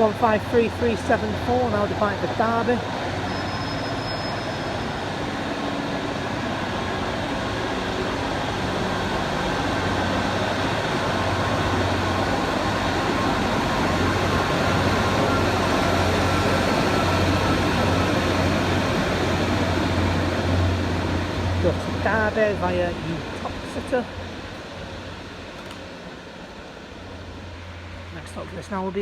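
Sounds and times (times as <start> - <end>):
diesel train engine drone: 0.0 - 29.0.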